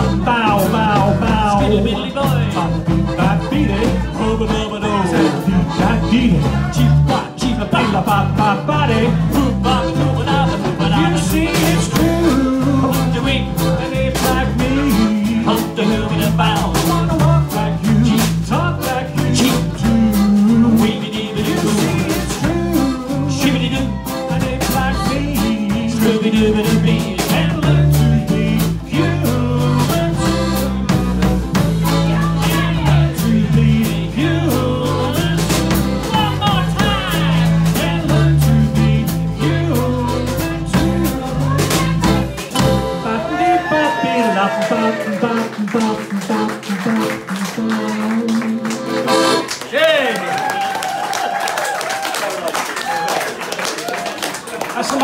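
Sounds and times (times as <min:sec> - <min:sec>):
electric bass guitar: 0:00.0 - 0:49.6
ukulele: 0:00.0 - 0:49.6
acoustic guitar: 0:00.0 - 0:49.7
accordion: 0:00.0 - 0:49.8
drums keeping time: 0:00.0 - 0:52.2.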